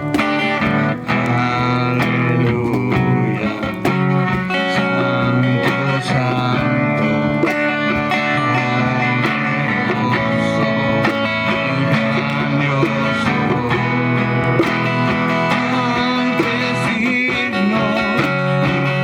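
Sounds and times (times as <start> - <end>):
guitar strummed steadily: 0.0 - 19.0
person singing: 0.0 - 19.0.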